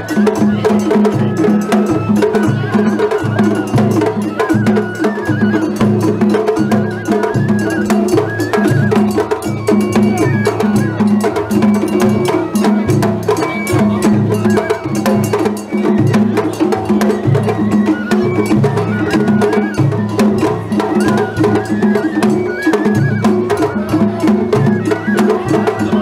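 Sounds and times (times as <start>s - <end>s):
bamboo flute melody: 0.0s - 26.0s
drums beaten fast: 0.0s - 26.0s.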